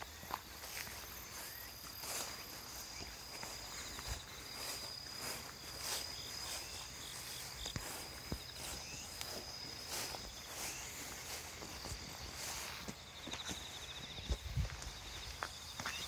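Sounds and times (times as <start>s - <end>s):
footsteps on grassy dirt track: 0.0s - 16.0s
insect steady high trill: 0.0s - 16.0s.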